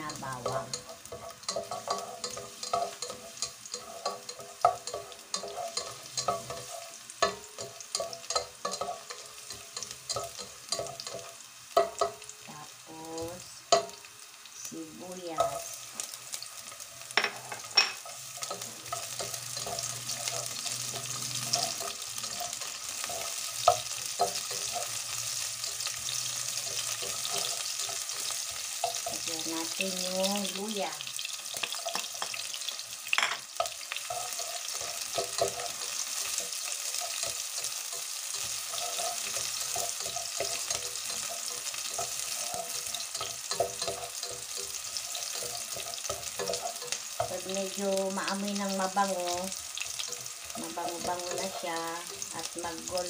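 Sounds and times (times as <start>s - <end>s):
spatula scraping and tapping pot: 0.0s - 12.3s, 13.7s - 14.0s, 15.4s - 16.2s, 17.0s - 47.8s
garlic sizzling in hot oil: 0.0s - 53.0s.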